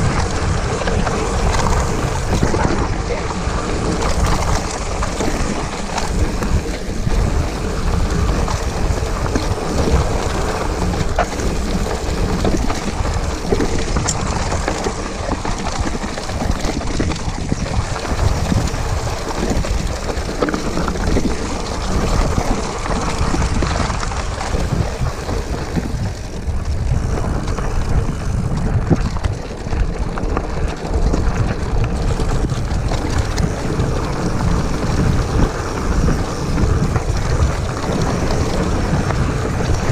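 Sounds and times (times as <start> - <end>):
bike frame rattling: 0.0 - 39.9
bike tyres rumbling over gravel: 0.0 - 39.9
wind buffeting microphone: 0.0 - 39.9.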